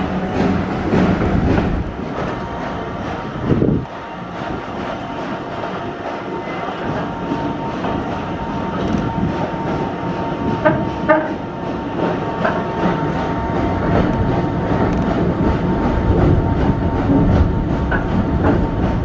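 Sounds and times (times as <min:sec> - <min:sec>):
train coach wheels clickety-clack: 0:00.0 - 0:19.0.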